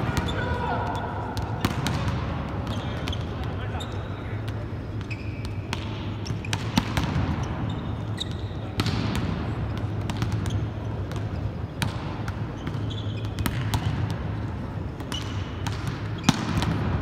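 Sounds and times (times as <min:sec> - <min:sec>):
volleyballs slapping and bouncing: 0:00.0 - 0:17.0.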